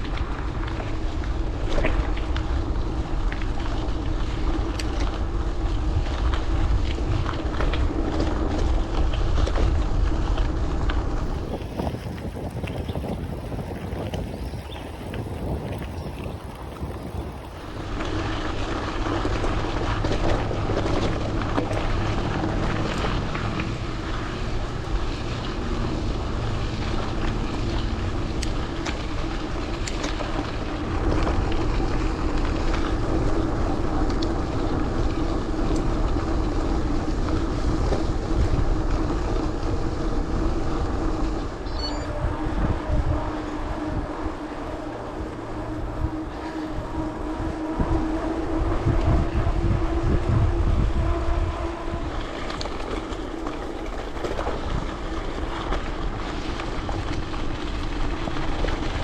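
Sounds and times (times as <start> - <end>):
bike tyres rolling: 0.0 - 59.0
wind on microphone: 0.0 - 59.0.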